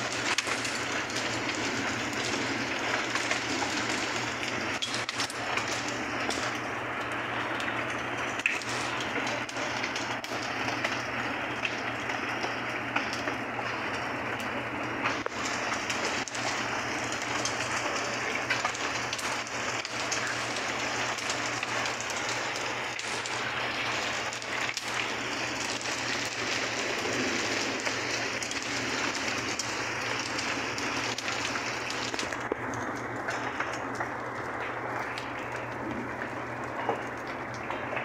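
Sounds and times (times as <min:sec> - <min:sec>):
hail and rain on paving: 0:00.0 - 0:38.0.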